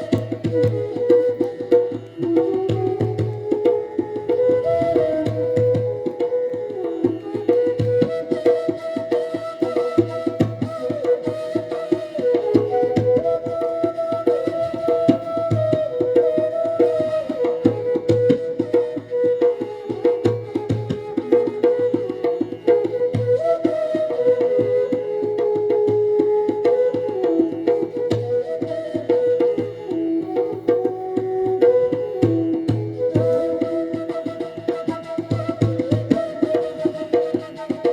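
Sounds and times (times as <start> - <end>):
flute melody: 0.0 - 37.9
tabla playing fast rhythm: 0.0 - 37.9.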